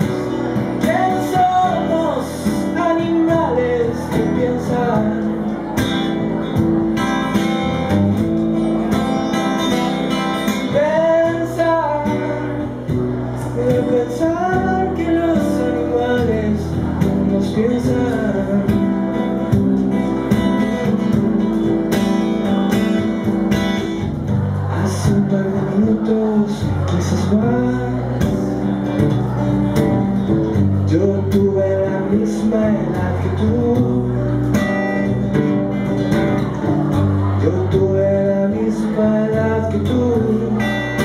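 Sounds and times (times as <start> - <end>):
acoustic guitar strumming: 0.0 - 41.0
man singing: 0.0 - 41.0.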